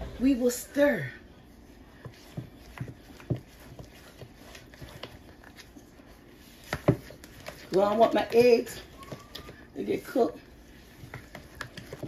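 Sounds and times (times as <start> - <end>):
wooden spoon stirring batter: 0.0 - 12.0.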